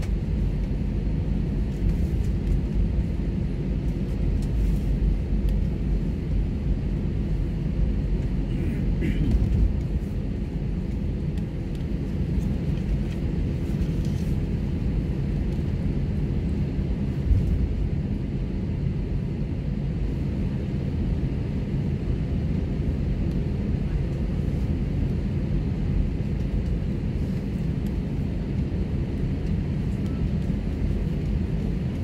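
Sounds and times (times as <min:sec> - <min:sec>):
jet engine and runway rumble: 0:00.0 - 0:32.0.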